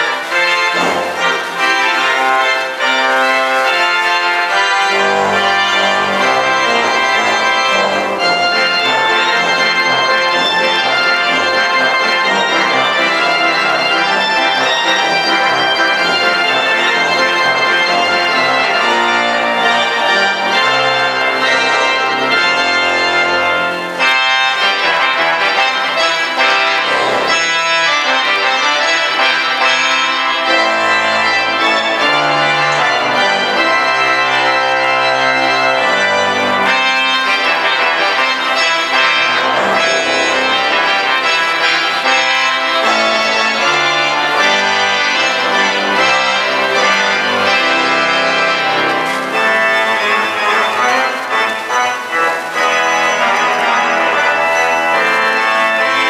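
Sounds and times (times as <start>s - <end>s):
pipe organ playing chords: 0.0s - 56.0s.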